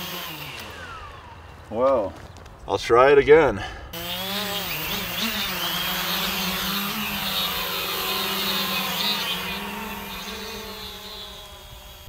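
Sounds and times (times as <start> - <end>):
quadcopter motors buzzing: 0.0 - 1.8, 3.9 - 12.0.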